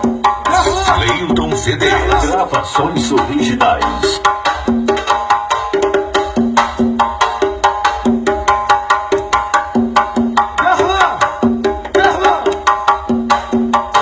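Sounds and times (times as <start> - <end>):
music with fast percussive beat: 0.0 - 14.0.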